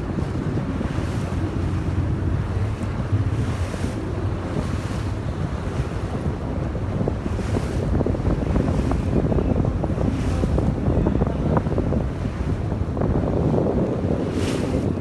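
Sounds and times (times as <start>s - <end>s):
boat engine rumble: 0.0s - 15.0s
water washing past hull: 0.0s - 15.0s
wind buffeting microphone: 0.0s - 15.0s.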